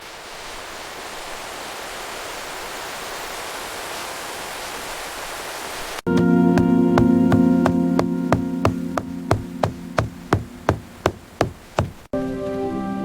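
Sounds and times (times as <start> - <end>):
mountain stream rushing: 0.0 - 12.1.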